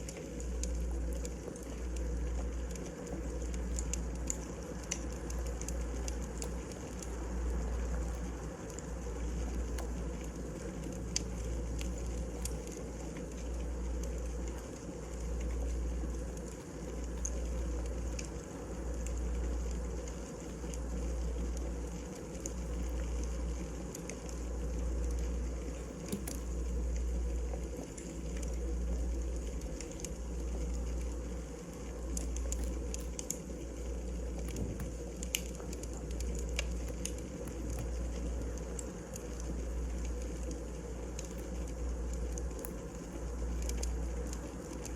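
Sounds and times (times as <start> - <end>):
low fire rumble: 0.0 - 44.9
wood fire crackling: 0.0 - 44.9.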